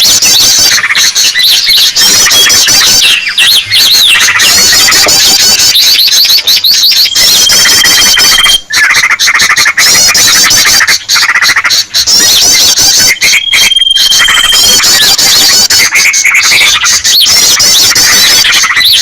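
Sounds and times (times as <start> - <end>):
held bird whistle: 0.0 - 19.0
small birds chirping and trilling: 0.0 - 19.0.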